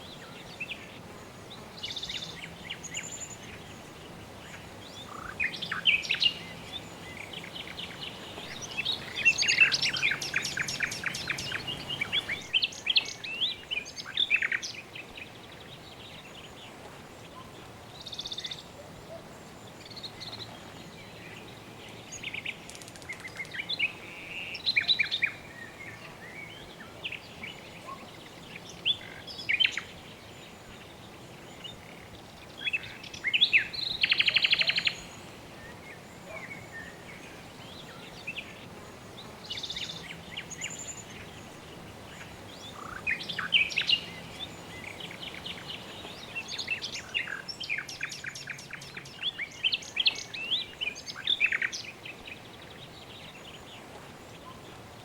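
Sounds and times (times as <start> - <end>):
faint background hiss: 0.0 - 55.0
birds chirping and trilling: 1.5 - 16.6, 17.3 - 55.0.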